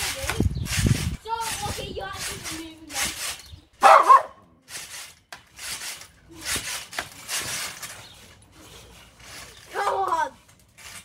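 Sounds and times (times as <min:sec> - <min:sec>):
rustling scraping swishes: 0:00.0 - 0:11.0.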